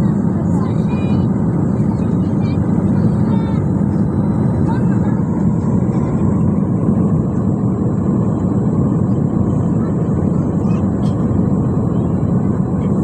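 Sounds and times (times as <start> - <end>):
airliner cabin engine rush: 0.0 - 13.0.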